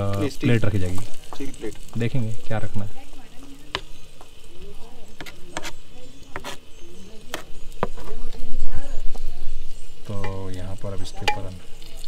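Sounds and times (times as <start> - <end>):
onion and tomato sizzling: 0.0 - 12.0
wood fire crackling and popping: 0.0 - 12.0.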